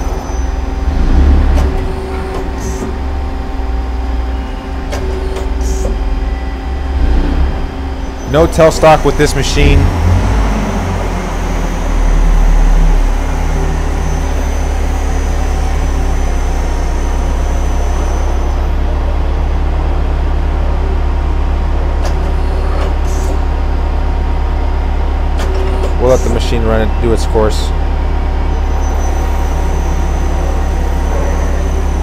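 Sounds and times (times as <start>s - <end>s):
lathe machine hum: 0.0s - 32.0s.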